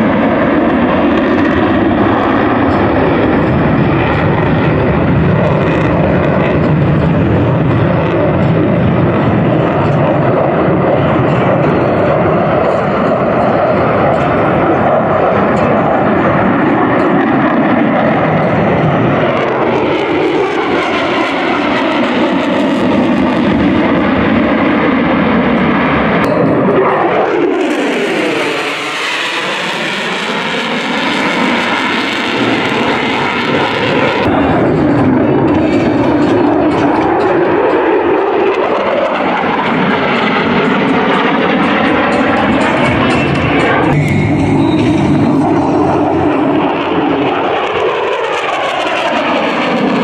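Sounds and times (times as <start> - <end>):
fighter jet flying past: 0.0 - 50.0.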